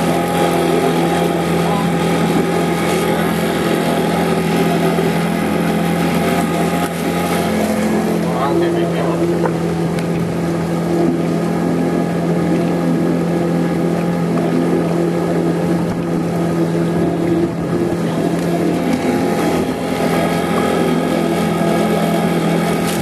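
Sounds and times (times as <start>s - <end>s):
outboard motor running: 0.0s - 23.0s
water noise: 0.0s - 23.0s.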